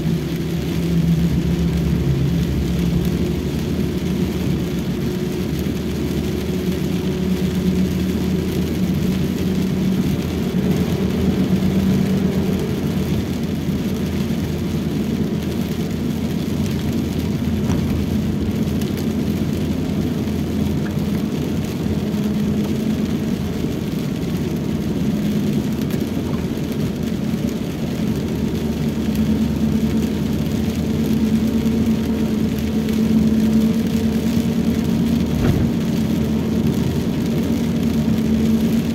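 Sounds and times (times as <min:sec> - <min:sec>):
car engine hum: 0:00.0 - 0:38.9
rain hissing on car: 0:00.0 - 0:38.9
tyres on wet road: 0:00.0 - 0:38.9.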